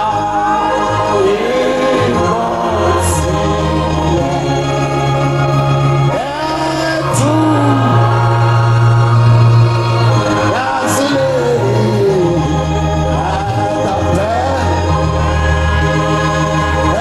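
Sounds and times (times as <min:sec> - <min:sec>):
electronic organ chords: 0:00.0 - 0:17.0
person singing: 0:00.0 - 0:17.0.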